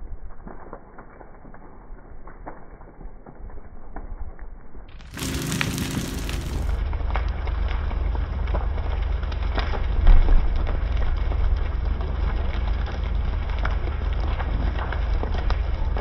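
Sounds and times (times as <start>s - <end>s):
burning timber crackling: 0.0s - 16.0s
low rumble of fire: 0.0s - 16.0s.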